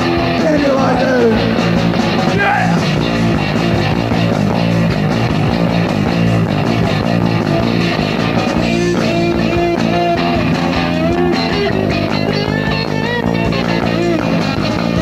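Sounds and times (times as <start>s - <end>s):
lead guitar melody: 0.0s - 15.0s
punk rock band playing: 0.0s - 15.0s.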